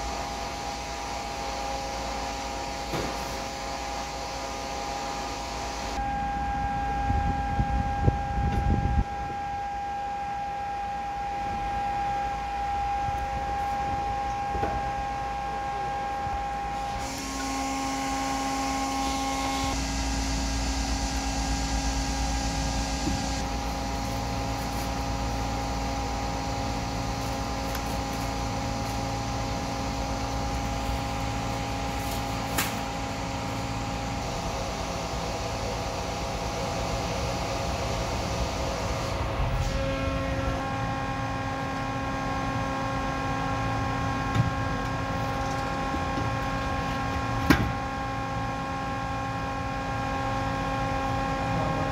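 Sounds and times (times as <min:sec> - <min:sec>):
machine hum with steady tones: 0:00.0 - 0:51.9.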